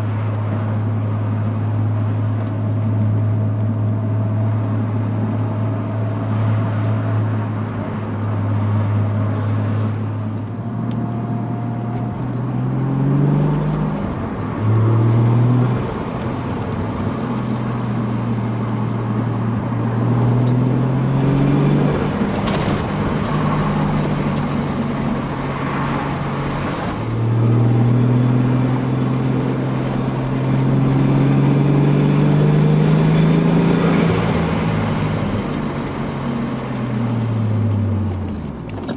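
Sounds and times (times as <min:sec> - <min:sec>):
car engine revving through gears: 0:03.3 - 0:38.9.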